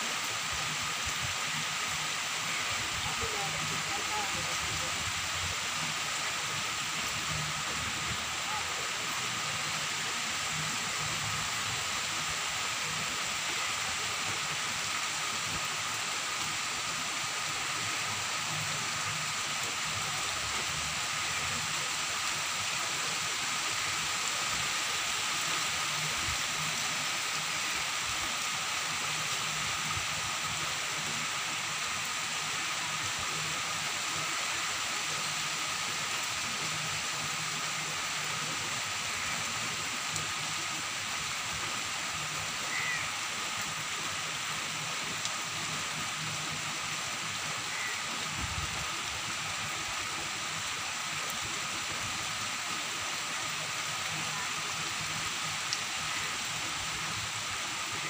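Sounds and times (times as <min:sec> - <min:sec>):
heavy rain on trees and road: 0:00.0 - 0:58.0.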